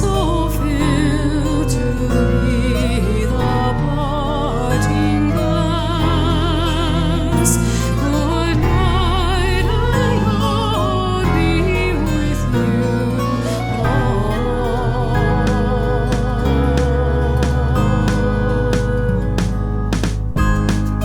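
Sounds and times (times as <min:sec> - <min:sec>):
slow folk ballad music: 0:00.0 - 0:21.0.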